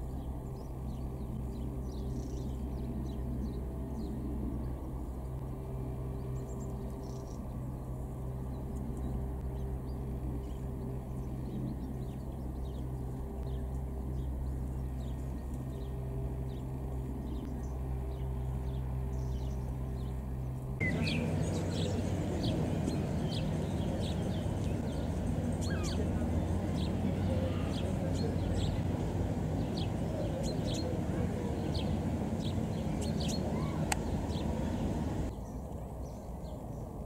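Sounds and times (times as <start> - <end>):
songbirds chirping: 0.0 - 37.0
steady low hum: 0.0 - 37.0.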